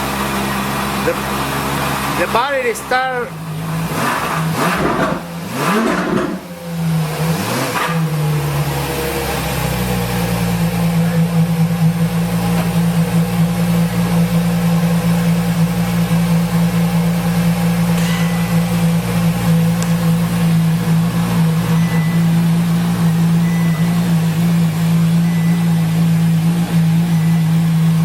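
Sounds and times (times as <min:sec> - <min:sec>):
car engine idling: 0:00.0 - 0:07.4, 0:08.0 - 0:28.0.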